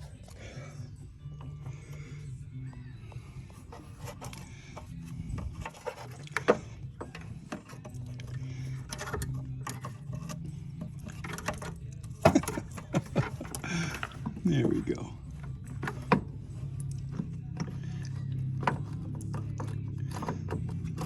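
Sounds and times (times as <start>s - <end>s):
metal parts clicking and knocking: 4.0s - 21.0s.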